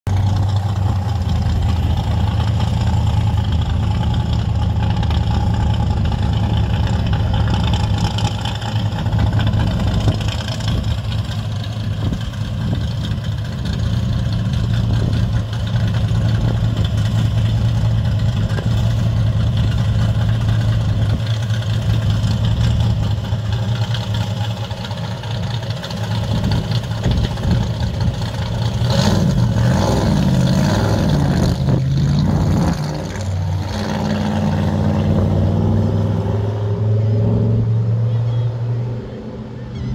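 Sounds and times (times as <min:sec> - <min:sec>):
car engine idling: 0:00.0 - 0:36.2.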